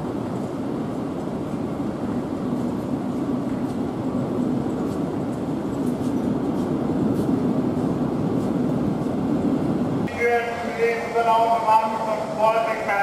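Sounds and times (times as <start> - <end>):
train rumbling and humming: 0.0 - 13.0.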